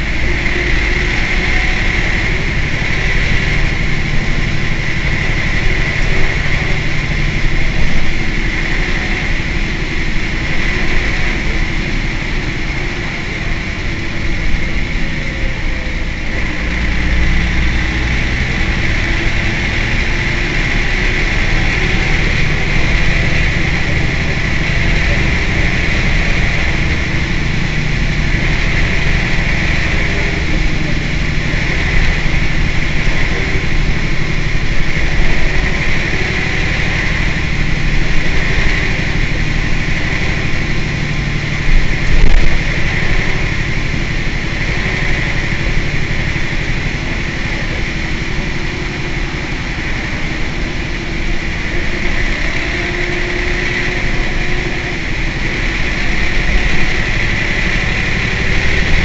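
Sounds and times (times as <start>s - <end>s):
bus diesel engine idling: 0.0s - 59.0s
high hiss: 0.0s - 59.0s.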